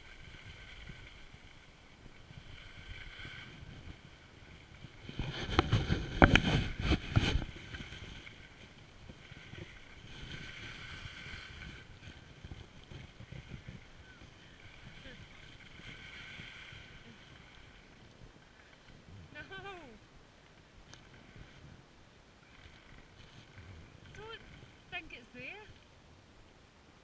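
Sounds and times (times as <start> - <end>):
wind on microphone: 0.0 - 27.0.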